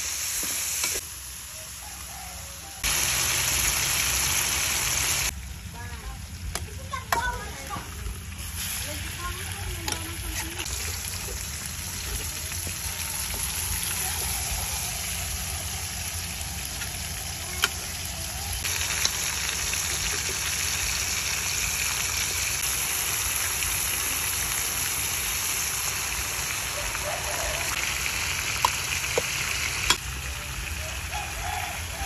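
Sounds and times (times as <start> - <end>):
liquid sizzling in a wok: 0.0 - 32.0.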